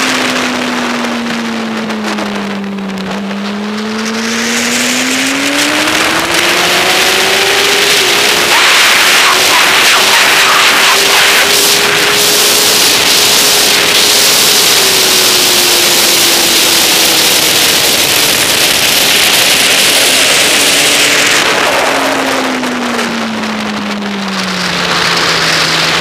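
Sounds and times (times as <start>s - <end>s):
motorcycle engine: 0.0s - 26.0s
wind rush on camera: 0.0s - 26.0s.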